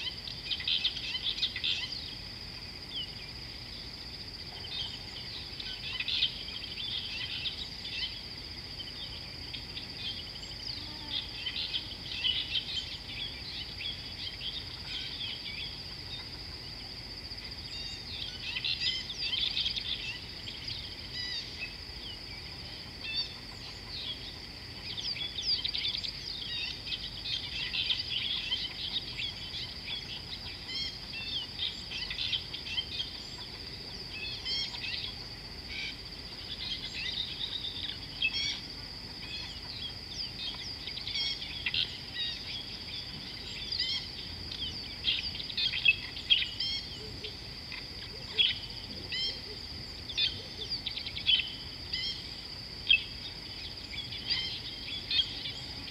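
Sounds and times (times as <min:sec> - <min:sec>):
birds chirping and calling: 0:00.0 - 0:16.8, 0:17.4 - 0:55.8.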